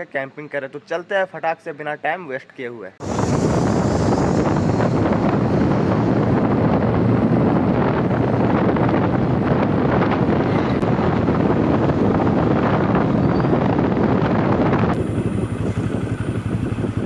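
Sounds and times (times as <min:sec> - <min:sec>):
wind buffeting microphone: 0:03.0 - 0:17.0.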